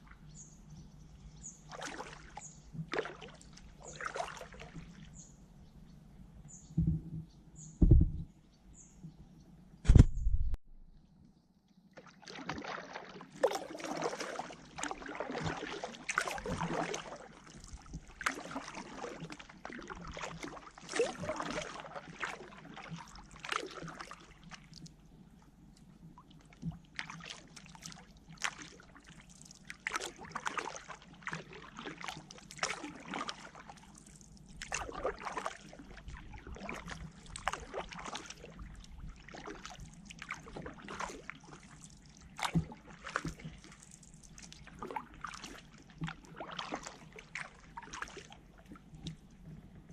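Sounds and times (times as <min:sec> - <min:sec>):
paddle splashing in water: 0:01.5 - 0:05.4, 0:11.9 - 0:25.0, 0:26.2 - 0:49.9.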